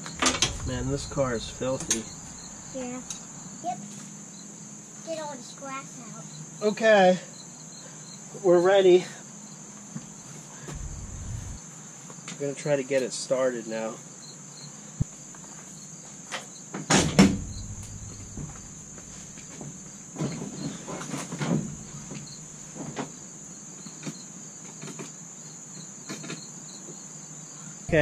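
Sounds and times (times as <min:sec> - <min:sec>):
crickets chirring: 0:00.0 - 0:11.6, 0:14.1 - 0:28.0.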